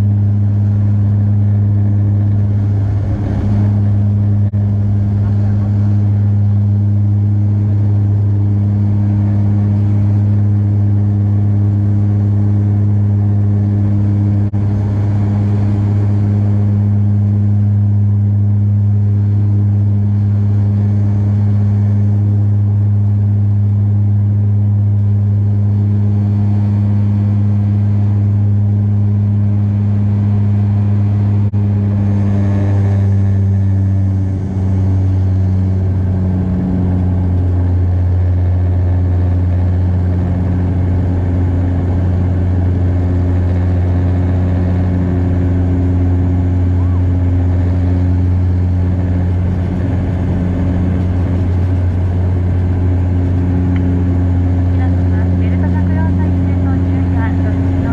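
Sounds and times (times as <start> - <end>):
turboprop cabin drone: 0.0 - 57.9.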